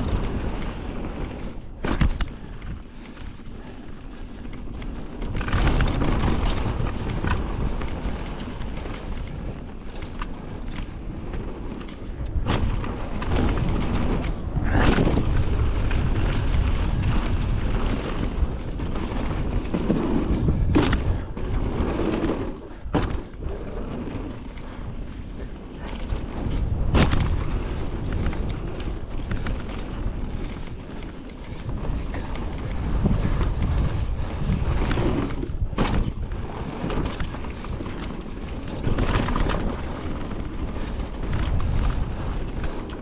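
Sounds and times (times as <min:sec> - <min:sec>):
bike clunking on rocks: 0:00.0 - 0:03.6, 0:04.8 - 0:42.8
bike tyres rumbling on dirt: 0:00.0 - 0:43.0
wind buffeting microphone: 0:00.0 - 0:43.0.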